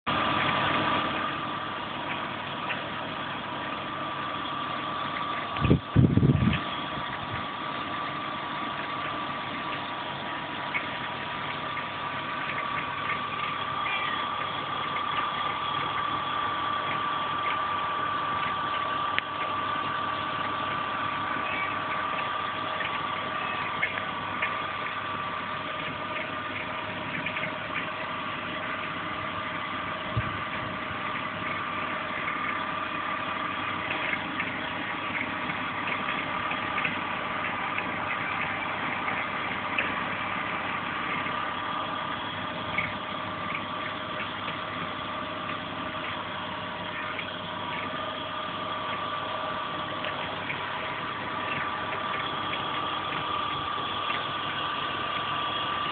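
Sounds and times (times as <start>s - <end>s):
engine whine: 0.1s - 55.9s.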